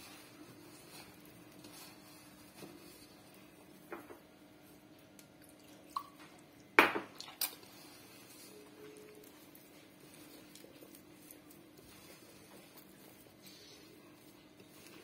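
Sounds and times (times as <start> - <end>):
dough squishing in plastic bowl: 0.0 - 15.0.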